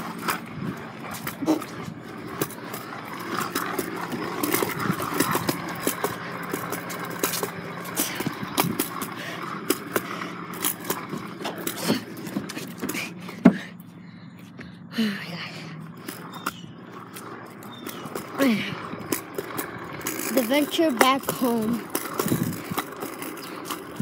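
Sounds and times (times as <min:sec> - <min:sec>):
wheels rolling on concrete: 0:00.0 - 0:24.0.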